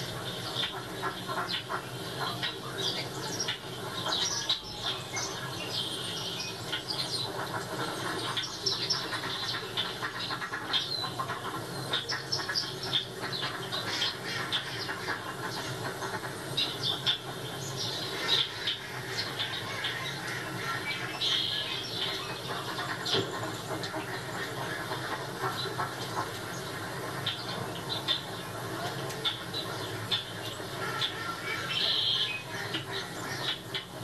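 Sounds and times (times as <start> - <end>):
birds chirping through tv speakers: 0.0 - 34.0.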